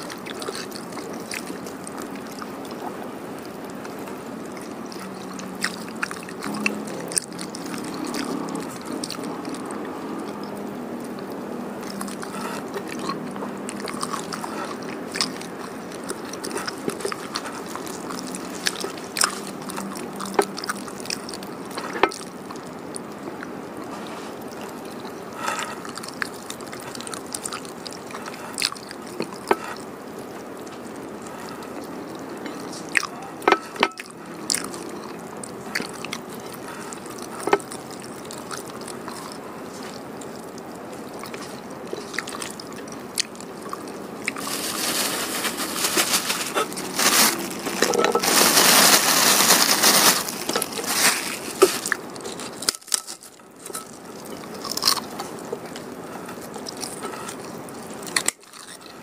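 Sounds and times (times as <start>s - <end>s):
crunching crackers: 0.0s - 59.0s
person chewing food: 0.0s - 59.0s.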